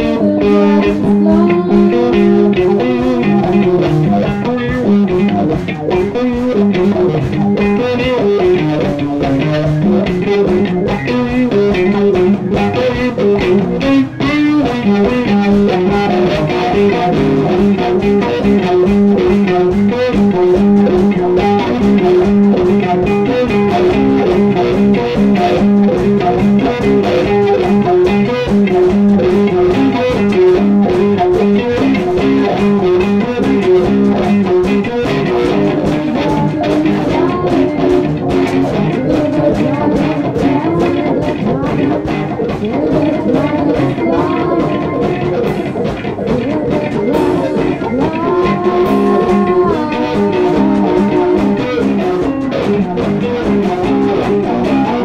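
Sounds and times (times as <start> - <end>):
electric guitar music: 0.0 - 55.0.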